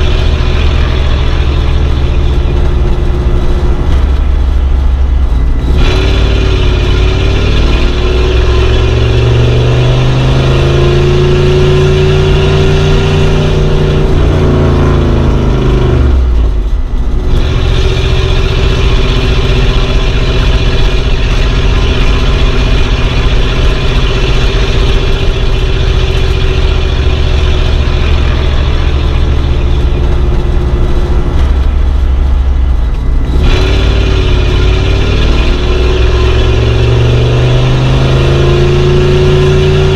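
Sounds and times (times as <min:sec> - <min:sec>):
old car engine driving: 0:00.0 - 0:39.9.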